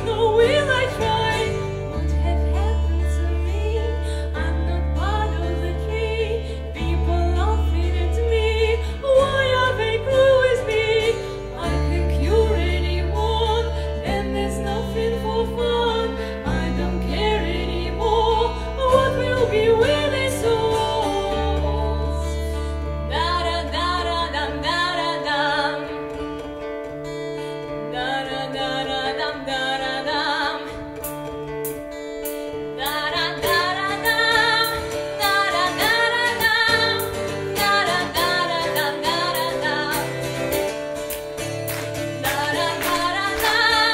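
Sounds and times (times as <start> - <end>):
woman singing: 0.0 - 26.6, 27.6 - 31.4, 32.5 - 41.1, 41.7 - 43.9
instrumental accompaniment: 0.0 - 43.9.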